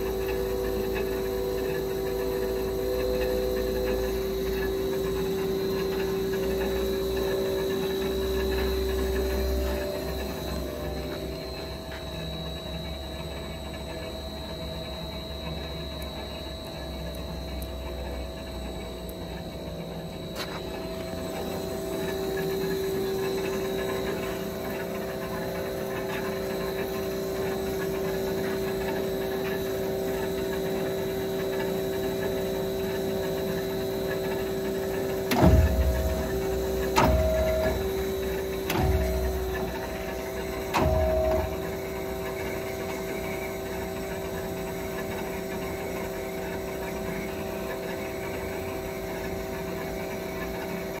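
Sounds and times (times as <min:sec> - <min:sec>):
bandsaw humming idle: 0:00.0 - 0:51.0.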